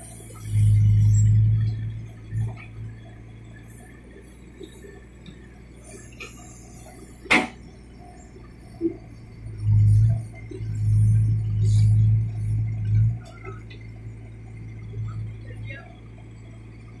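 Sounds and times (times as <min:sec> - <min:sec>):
backhoe engine running: 0:00.0 - 0:17.0.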